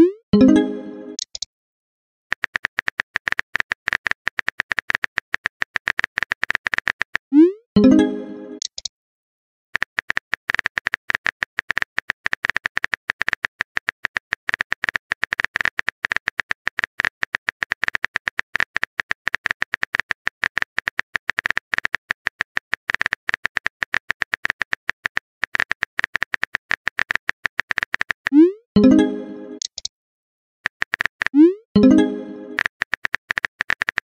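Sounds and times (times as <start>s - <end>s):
keyboard typing clicks: 1.2s - 1.5s, 2.3s - 7.2s, 7.8s - 8.9s, 9.8s - 29.9s, 30.7s - 34.0s.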